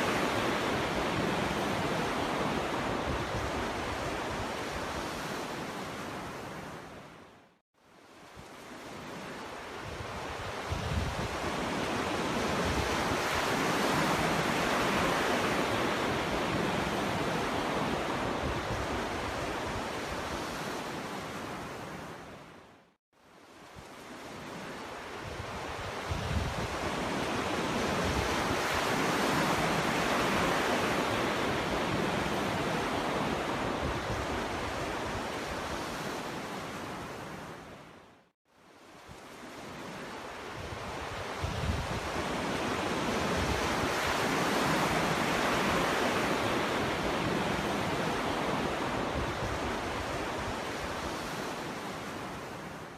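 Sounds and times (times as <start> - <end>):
ocean waves washing onto beach: 0.0 - 52.9.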